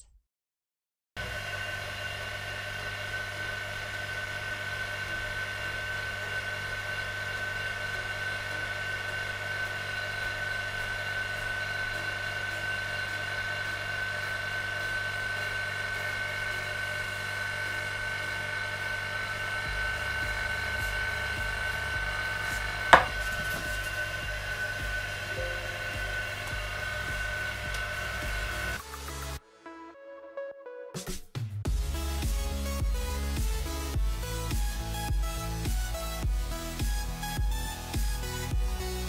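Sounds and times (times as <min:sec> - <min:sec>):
vacuum pump humming and whining: 0:01.2 - 0:29.4, 0:31.7 - 0:39.0.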